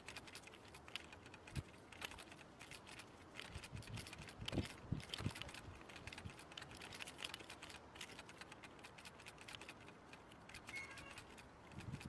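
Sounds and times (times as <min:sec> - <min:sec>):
faint irregular clicks and ticks: 0:00.0 - 0:12.0.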